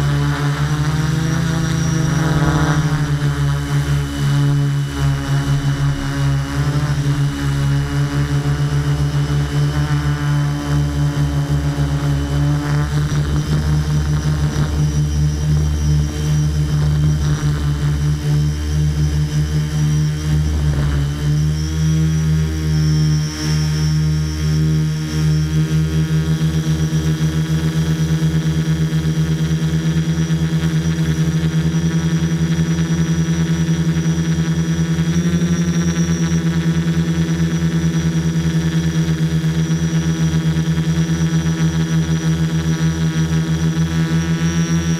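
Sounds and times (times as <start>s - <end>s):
drone propellers humming: 0.0s - 44.9s.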